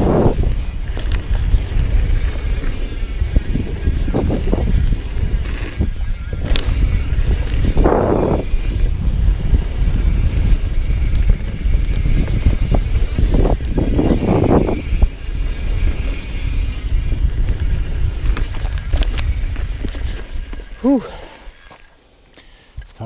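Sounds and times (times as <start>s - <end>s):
wind buffeting microphone: 0.0s - 21.7s
bike rattles: 0.0s - 22.0s
bike tyre noise: 0.0s - 23.0s.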